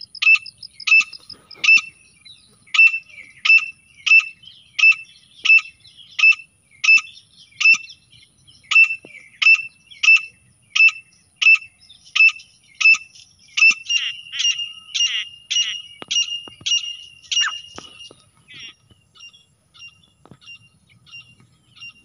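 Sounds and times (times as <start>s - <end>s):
bird calling shrill notes: 2.7s - 8.0s, 8.6s - 22.0s.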